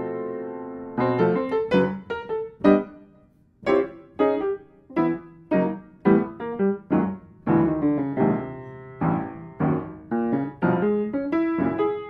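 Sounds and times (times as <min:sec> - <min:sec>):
piano notes and chords: 0:00.0 - 0:12.0.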